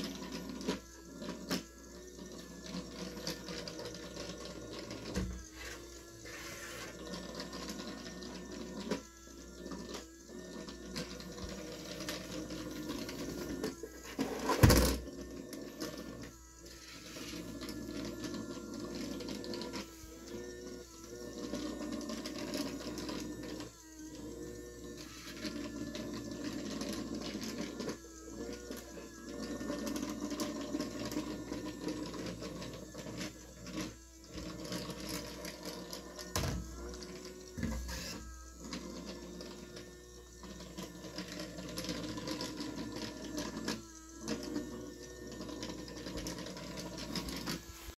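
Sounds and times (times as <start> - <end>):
robot vacuum motor whirring: 0.0 - 48.0.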